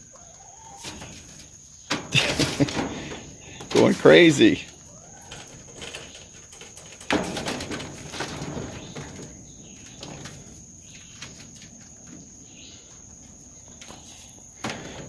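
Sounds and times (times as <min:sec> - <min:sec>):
rabbits rustling in hay: 0:00.2 - 0:14.6.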